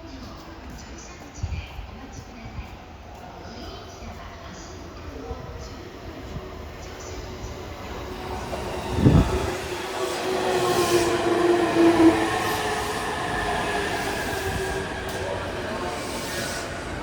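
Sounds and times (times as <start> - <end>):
electric train on rails: 0.0 - 17.0.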